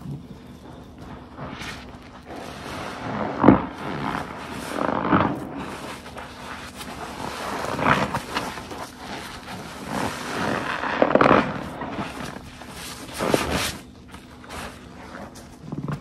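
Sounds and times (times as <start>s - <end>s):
sponge squelching: 0.0s - 16.0s.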